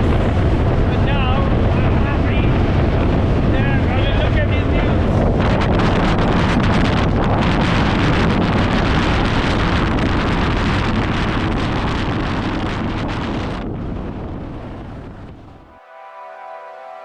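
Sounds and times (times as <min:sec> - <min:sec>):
wind buffeting microphone: 0:00.0 - 0:15.8.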